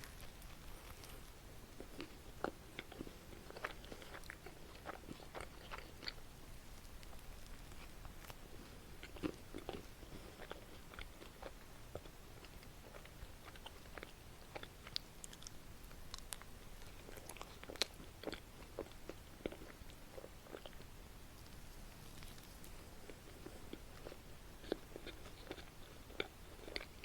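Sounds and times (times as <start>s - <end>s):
chewing waffle with crisp crackles: 0.0s - 27.0s.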